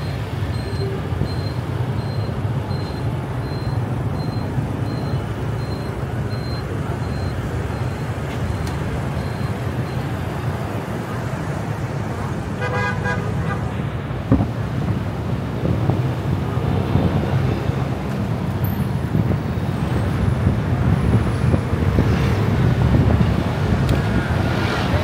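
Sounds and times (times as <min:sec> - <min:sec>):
road and engine rumble: 0:00.0 - 0:25.0.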